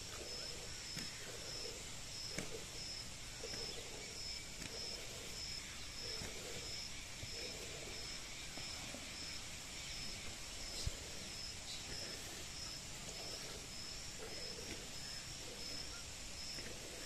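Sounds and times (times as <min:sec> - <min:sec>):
faint rural background: 0:00.0 - 0:17.0
insect chirping: 0:00.0 - 0:17.0.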